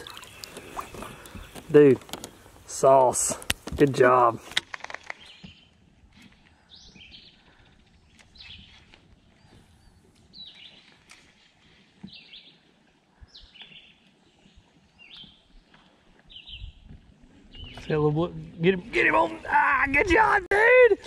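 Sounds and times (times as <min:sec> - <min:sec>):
songbird singing: 0:00.0 - 0:20.6.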